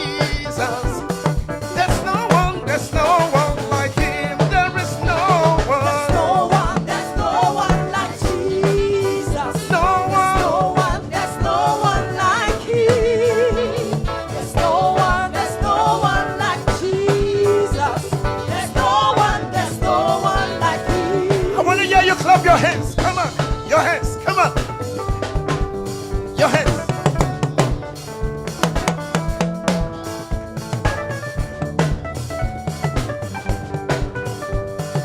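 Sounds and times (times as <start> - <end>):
gospel choir singing: 0.0 - 28.1
band with steady drum beat: 0.0 - 35.0.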